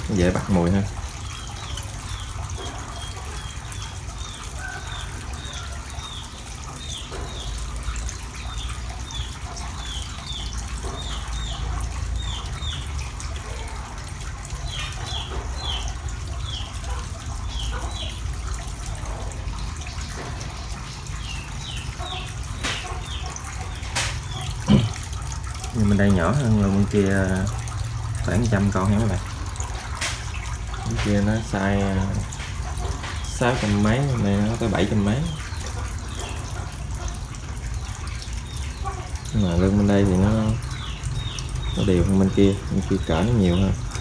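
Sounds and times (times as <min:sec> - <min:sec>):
water trickling and dripping: 0:00.0 - 0:44.0.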